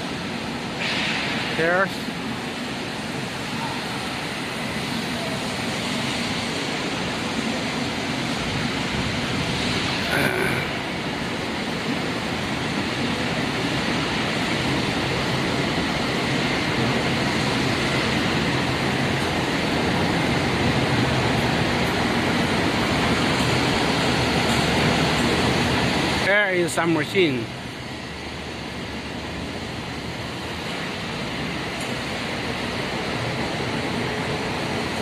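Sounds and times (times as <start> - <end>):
machinery and ventilation noise: 0.0 - 35.0.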